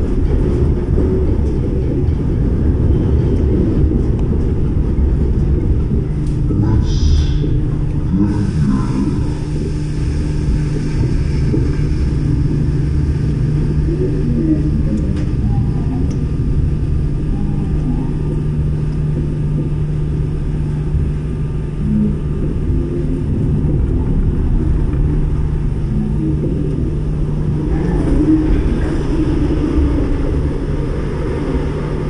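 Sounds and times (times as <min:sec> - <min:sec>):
constant low hum: 0:00.0 - 0:32.0
train wheels rumbling on rail: 0:00.0 - 0:32.0.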